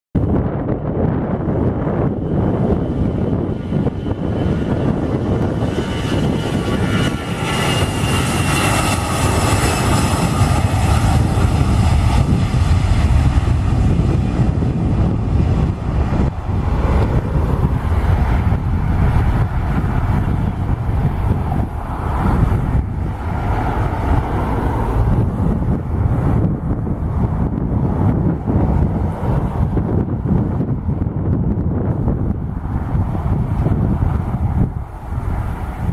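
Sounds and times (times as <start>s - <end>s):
jet engines low rumble: 0.1s - 35.9s
jet engine high whine: 0.2s - 35.9s.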